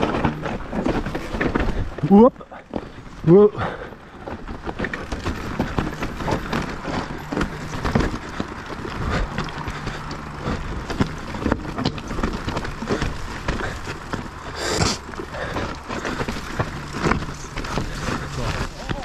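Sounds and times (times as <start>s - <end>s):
bike clattering and rattling: 0.0s - 19.0s
bike tyres rolling on dirt: 0.0s - 19.0s.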